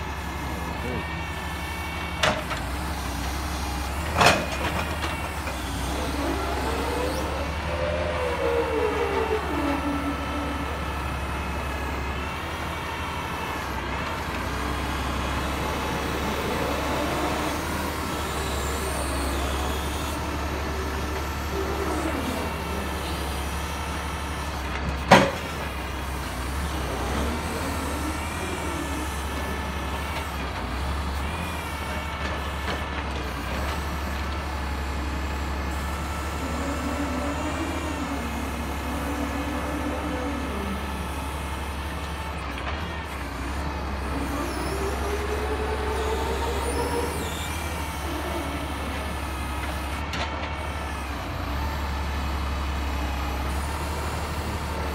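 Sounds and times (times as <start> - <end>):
diesel engine running: 0.0 - 54.9
hydraulic whine: 0.0 - 54.9.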